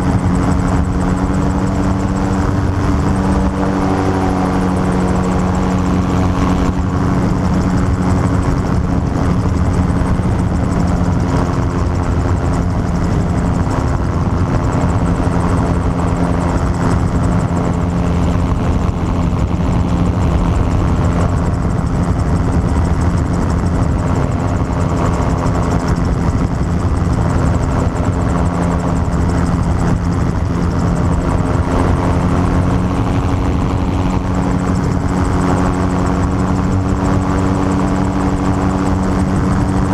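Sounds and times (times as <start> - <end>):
gyrocopter engine and propeller: 0.0 - 39.9.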